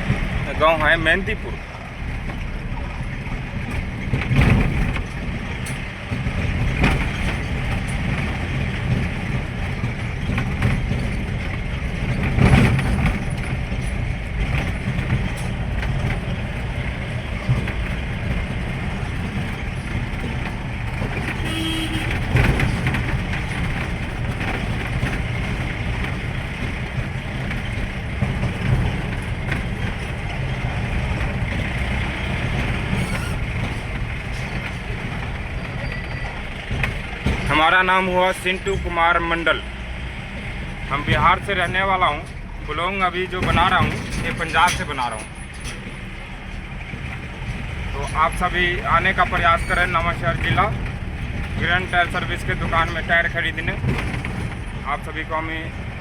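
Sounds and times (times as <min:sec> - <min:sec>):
vehicle bumps: 0:00.0 - 0:56.0
vehicle driving on road: 0:00.0 - 0:56.0.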